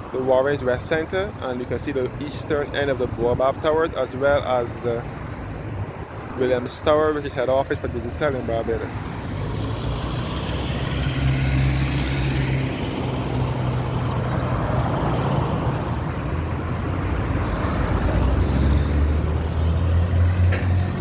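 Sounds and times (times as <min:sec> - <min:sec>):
tyre and road noise: 0:00.0 - 0:21.0
vehicles passing: 0:00.0 - 0:21.0.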